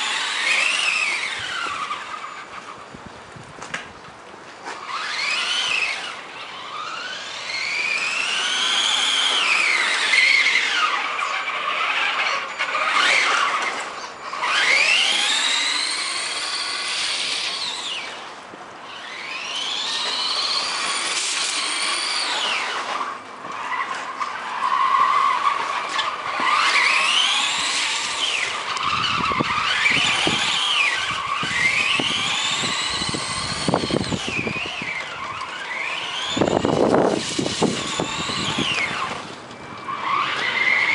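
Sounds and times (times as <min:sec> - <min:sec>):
electric toy car motor whining: 0:00.0 - 0:03.1, 0:04.6 - 0:40.9.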